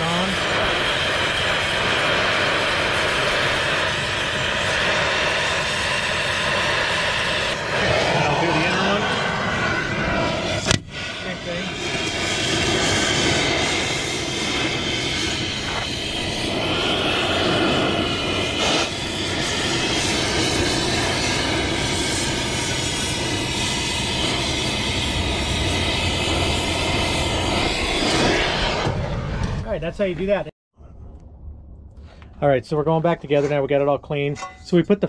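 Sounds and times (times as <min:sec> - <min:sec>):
cutting torch flame hissing: 0:00.0 - 0:30.0.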